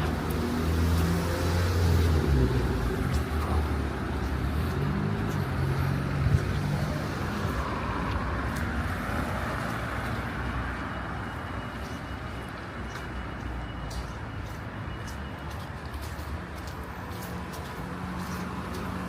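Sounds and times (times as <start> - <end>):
tyres hissing on wet street: 0.0 - 19.0.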